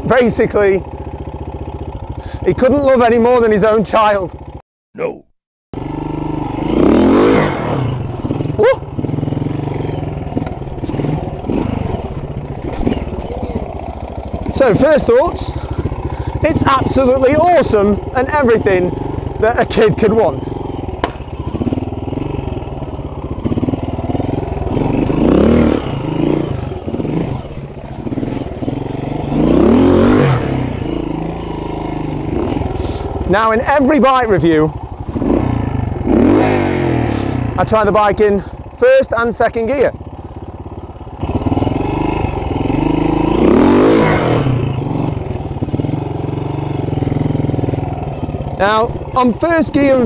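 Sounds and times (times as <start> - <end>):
motorcycle engine chugging: 0.0 - 4.6, 5.8 - 50.0.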